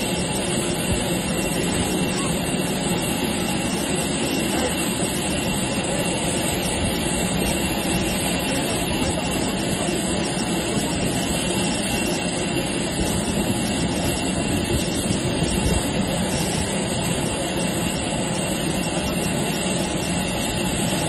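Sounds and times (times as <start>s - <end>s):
jet engine noise: 0.0s - 21.0s.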